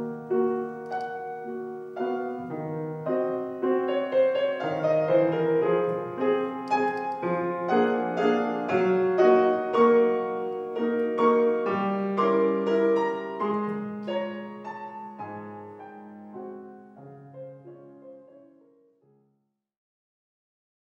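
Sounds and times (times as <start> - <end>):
solo piano classical piece: 0.0 - 19.3.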